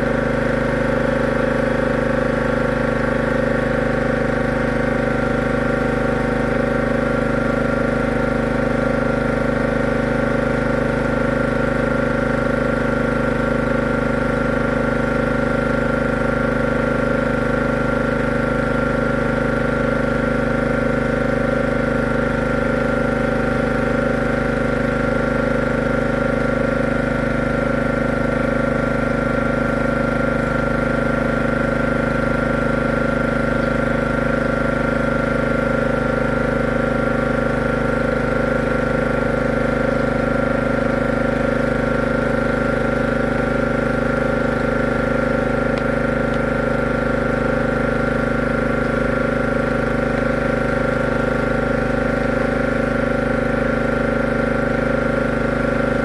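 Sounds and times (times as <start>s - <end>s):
machine motor humming: 0.0s - 56.0s.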